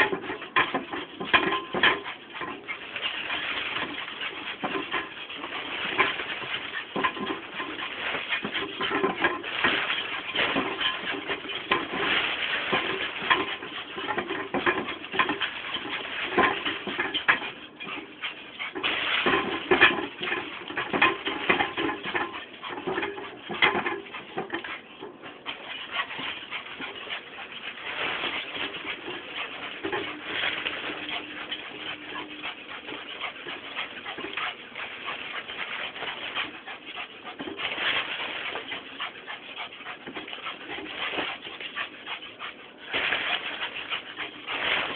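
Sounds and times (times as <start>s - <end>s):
paws scuffling: 0.0s - 44.9s.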